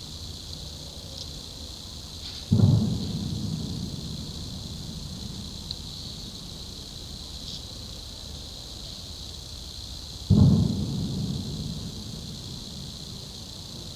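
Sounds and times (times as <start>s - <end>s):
crickets chirring: 0.0s - 13.9s.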